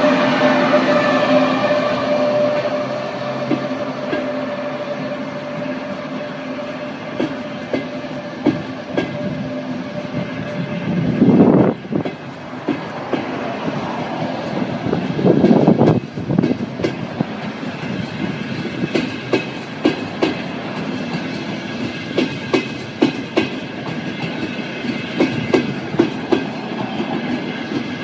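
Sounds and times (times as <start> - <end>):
electric train whine: 0.0 - 28.0
train rushing past: 0.0 - 28.0
train wheels clacking over rail joints: 1.3 - 28.0.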